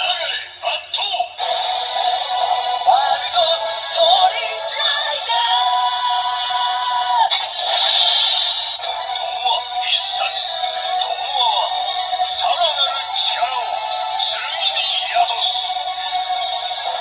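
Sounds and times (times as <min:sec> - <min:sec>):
toy speaker playing sung music: 0:00.0 - 0:17.0.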